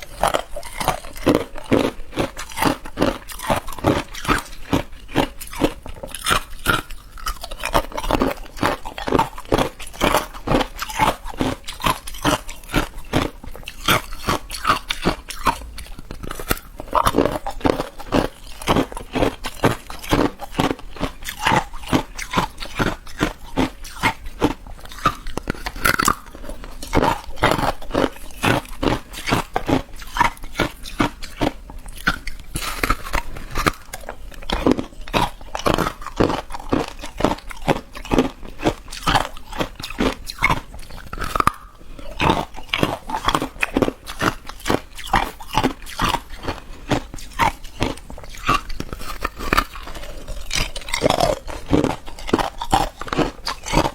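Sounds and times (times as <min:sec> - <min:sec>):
ice crunching while chewed: 0:00.0 - 0:53.9.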